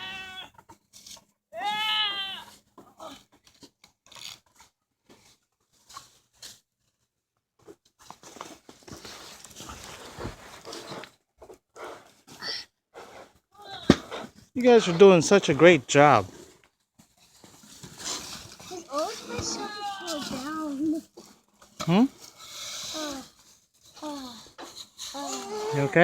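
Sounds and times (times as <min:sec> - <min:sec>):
rustling: 0:00.1 - 0:26.0.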